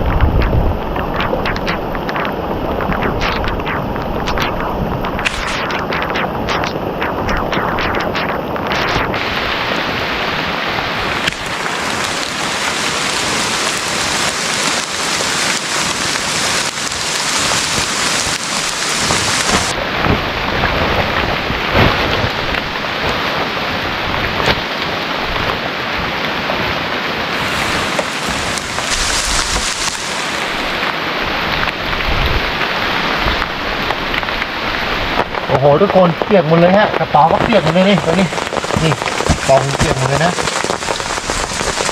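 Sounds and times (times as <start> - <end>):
raindrops striking close: 0.0 - 26.7, 27.3 - 41.9
heavy rain pouring: 0.0 - 41.9.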